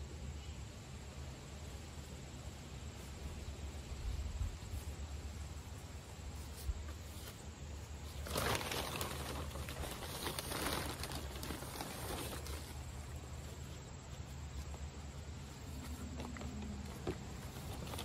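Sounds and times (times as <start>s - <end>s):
potting mix rustling and scraping: 1.4s - 18.0s.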